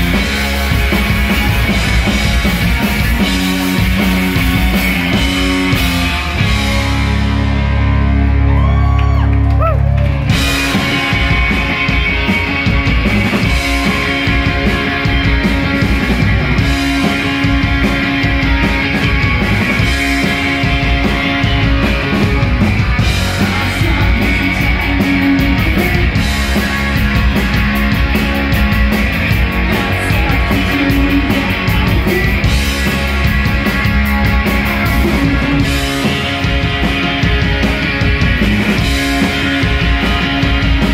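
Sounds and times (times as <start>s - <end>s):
bass guitar: 0.0s - 40.9s
drum kit: 0.0s - 40.9s
electric guitars: 0.0s - 40.9s.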